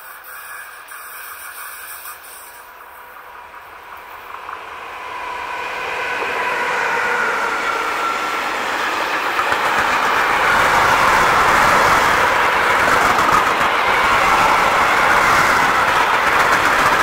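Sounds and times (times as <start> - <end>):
electric locomotive high tone: 0.0 - 17.0.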